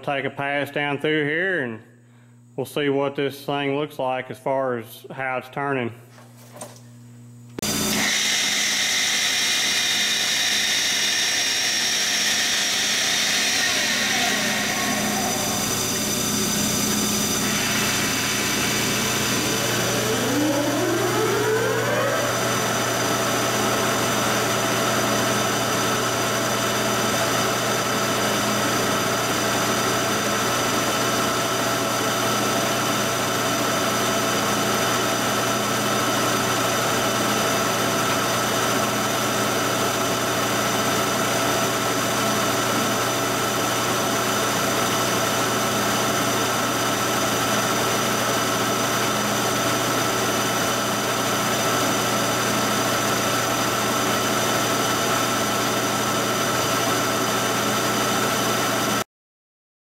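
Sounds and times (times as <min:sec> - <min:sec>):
phase converter humming: 0:05.8 - 0:56.6
lathe spindle whining: 0:07.6 - 0:56.4.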